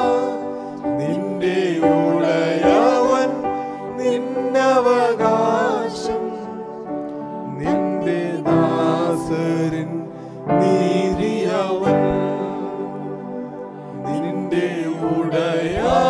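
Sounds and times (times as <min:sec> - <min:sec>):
group singing worship song: 0:00.0 - 0:16.0.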